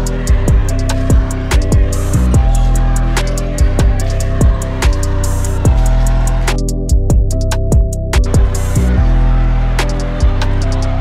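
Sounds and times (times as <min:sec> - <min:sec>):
backing music with a steady beat: 0:00.0 - 0:11.0.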